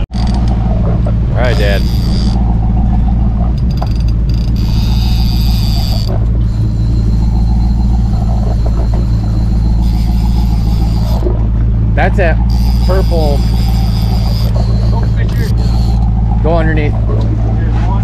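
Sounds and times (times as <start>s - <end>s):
boat engine humming: 0.0s - 18.0s
high whine: 0.0s - 18.0s.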